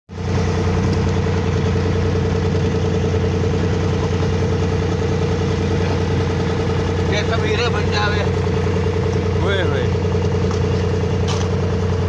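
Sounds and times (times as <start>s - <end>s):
boat engine droning: 0.1s - 12.0s.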